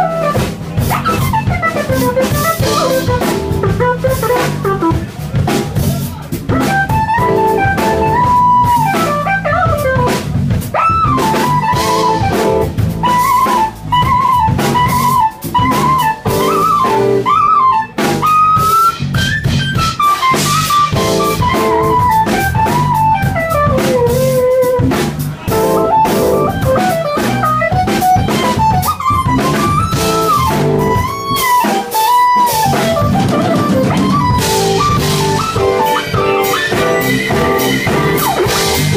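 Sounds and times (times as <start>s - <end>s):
synthesizer lead melody: 0.0s - 5.1s, 6.5s - 10.2s, 10.8s - 24.8s, 25.5s - 38.9s
drum beat: 0.0s - 17.3s, 18.0s - 38.9s
bass line: 0.0s - 38.9s.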